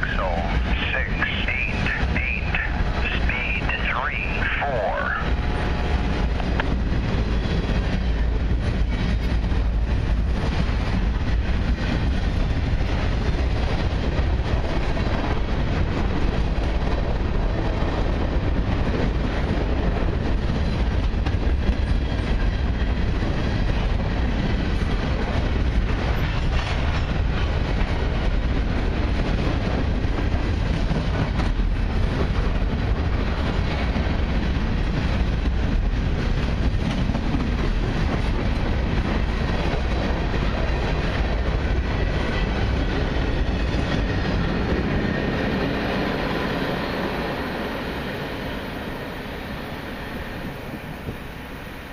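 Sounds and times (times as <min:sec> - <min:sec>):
train wheels running on rails: 0:00.0 - 0:51.9.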